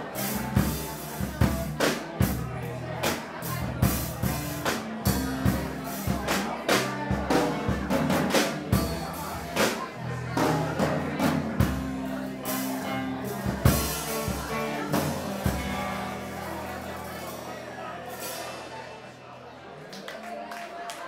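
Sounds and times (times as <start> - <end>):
bass guitar: 0.0 - 19.7.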